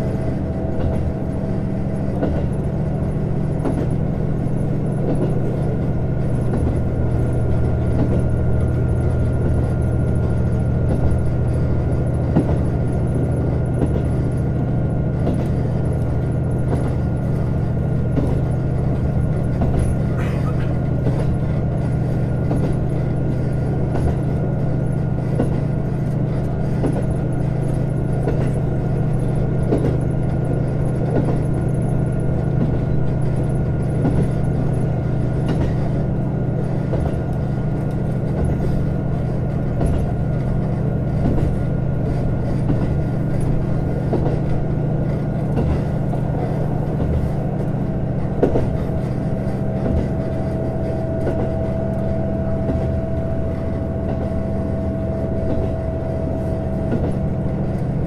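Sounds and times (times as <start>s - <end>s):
diesel engine drone: 0.0s - 58.0s
train wheels clicking over rails: 0.0s - 58.0s.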